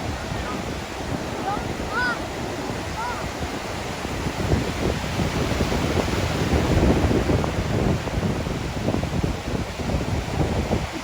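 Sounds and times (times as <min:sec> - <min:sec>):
ocean surf: 0:00.0 - 0:11.0
wind buffeting microphone: 0:00.0 - 0:11.0.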